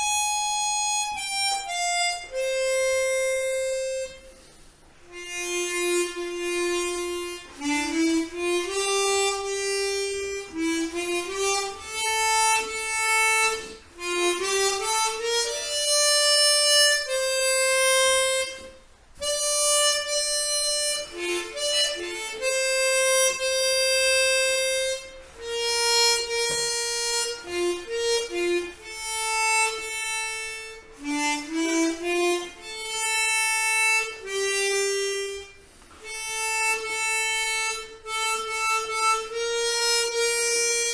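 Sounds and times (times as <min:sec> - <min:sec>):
harmonica melody: 0:00.0 - 0:40.9.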